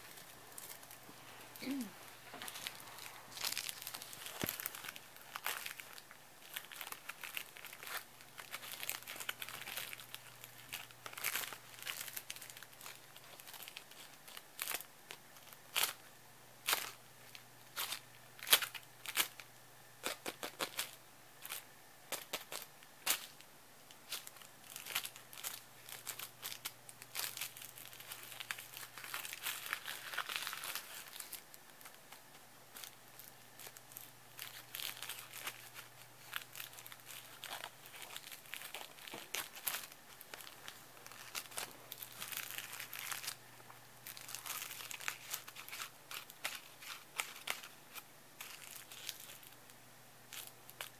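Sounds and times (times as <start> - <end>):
cellophane crinkling: 0.0 - 50.9.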